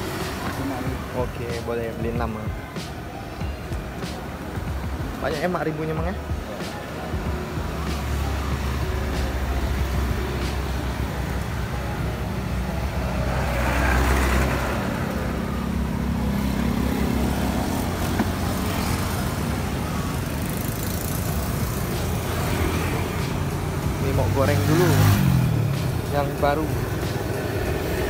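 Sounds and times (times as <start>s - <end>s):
road traffic engine rumble: 0.0s - 28.0s
vehicle passing: 0.0s - 28.0s.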